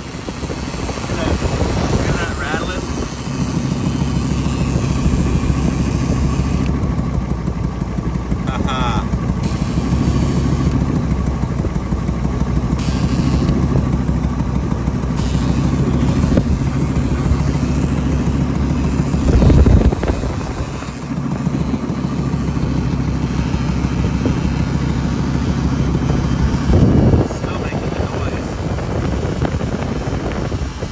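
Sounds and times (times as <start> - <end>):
truck engine running: 0.0 - 30.9.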